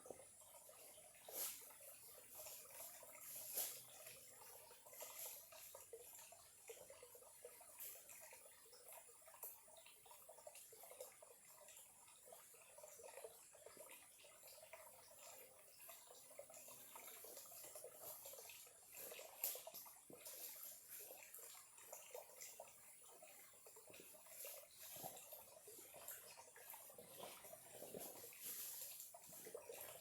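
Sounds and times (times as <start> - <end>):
stream trickling over stones: 0.0 - 30.0.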